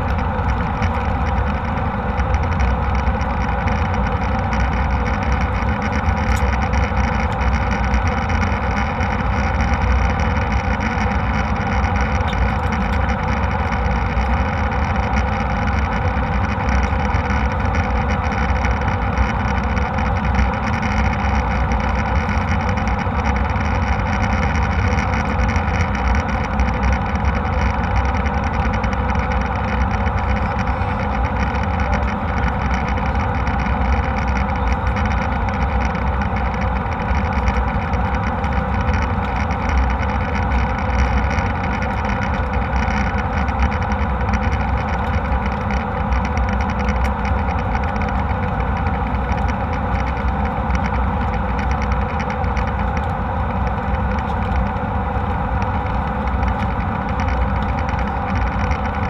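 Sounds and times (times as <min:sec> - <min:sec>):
jet airliner cabin noise: 0:00.0 - 0:59.0.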